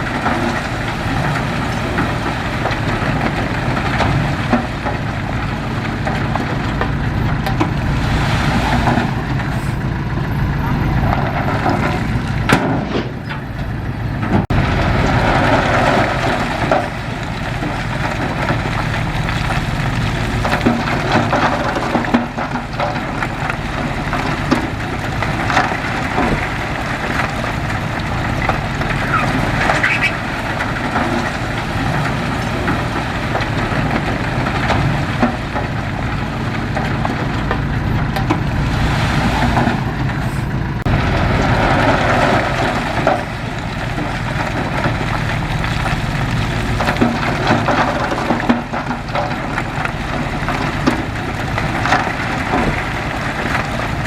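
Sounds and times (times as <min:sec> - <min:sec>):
heavy machinery diesel engine: 0:00.0 - 0:54.0
metal clanks and knocks: 0:08.6 - 0:54.0.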